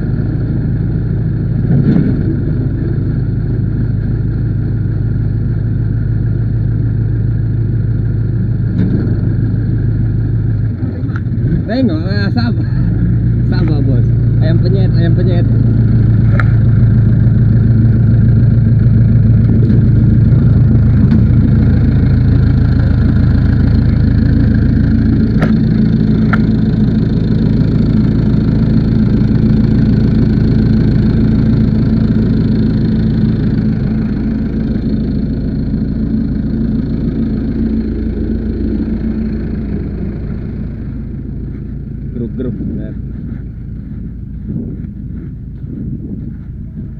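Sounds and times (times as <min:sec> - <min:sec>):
backhoe loader engine running: 0:00.0 - 0:46.9.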